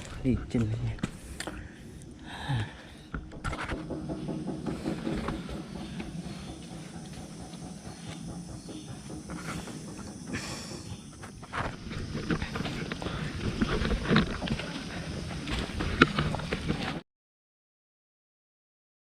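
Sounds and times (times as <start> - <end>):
footsteps and rustles on trail: 0.0 - 2.1, 3.0 - 17.0
faint hum: 0.0 - 17.0
low rumble: 0.0 - 17.0.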